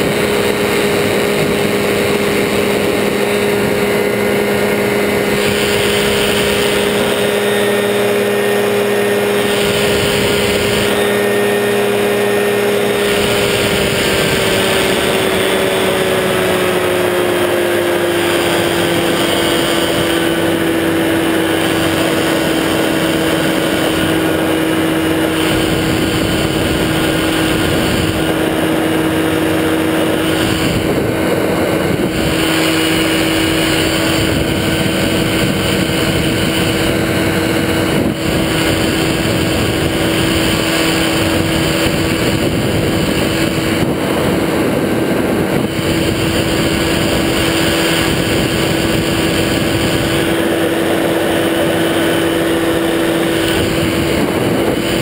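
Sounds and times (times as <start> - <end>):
engine and propeller running: 0.0 - 55.0.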